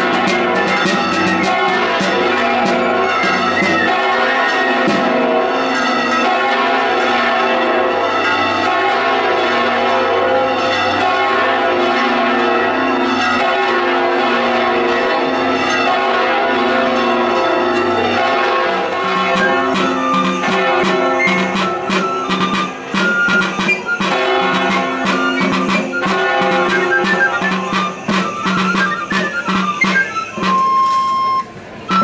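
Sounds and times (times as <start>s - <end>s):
church bells pealing: 0.0s - 32.0s.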